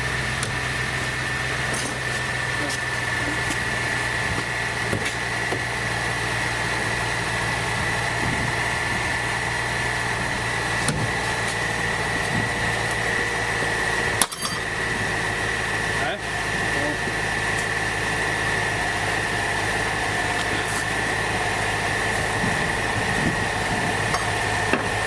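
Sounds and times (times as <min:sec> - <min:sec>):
car engine idling: 0:00.0 - 0:25.0
high whine: 0:00.0 - 0:25.0.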